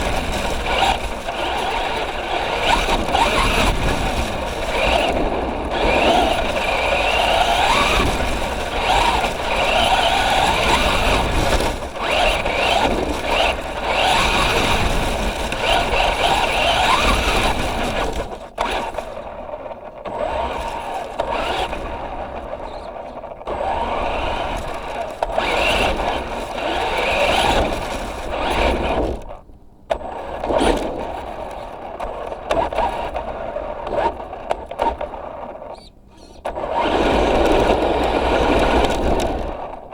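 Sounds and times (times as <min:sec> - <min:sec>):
electric motor whining: 0:00.0 - 0:19.2, 0:20.1 - 0:33.2, 0:33.8 - 0:39.8
toy truck running over ground: 0:00.0 - 0:39.9.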